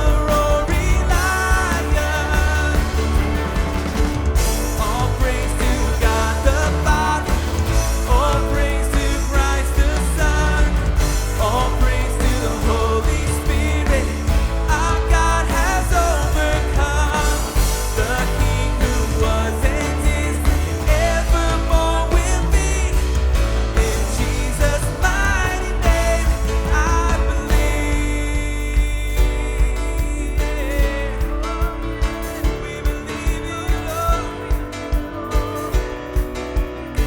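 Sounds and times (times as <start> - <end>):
bass guitar: 0.0 - 37.0
drums: 0.0 - 37.0
guitar: 0.0 - 37.0
person singing: 0.0 - 37.0
piano: 0.0 - 37.0.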